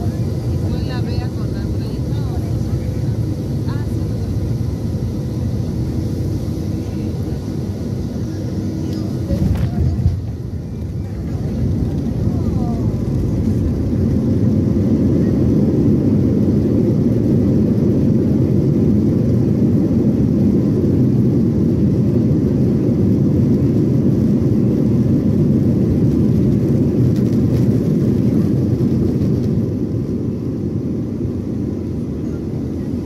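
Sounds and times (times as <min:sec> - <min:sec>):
jet engines roaring in cabin: 0:00.0 - 0:33.0.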